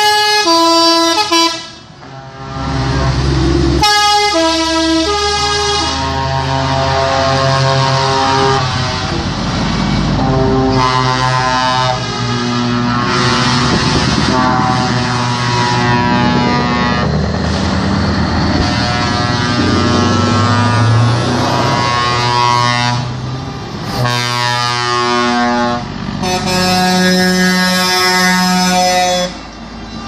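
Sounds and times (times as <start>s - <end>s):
truck air horns blasting: 0.0s - 30.0s
trucks passing: 0.0s - 30.0s.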